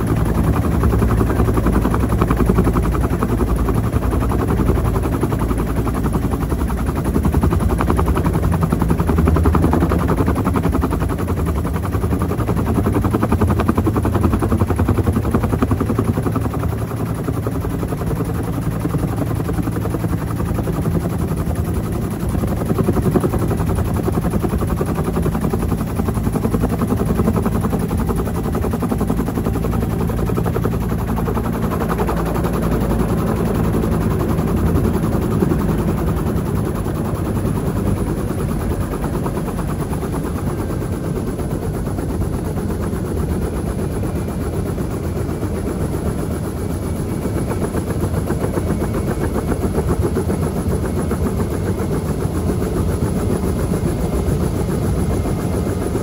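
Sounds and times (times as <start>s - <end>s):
helicopter engine drone: 0.0s - 56.0s
helicopter rotor chopping: 0.0s - 56.0s.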